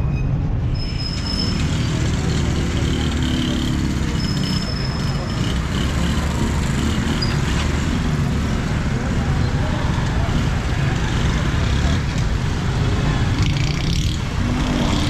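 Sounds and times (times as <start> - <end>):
motorcycle and car engines: 0.4 - 15.0.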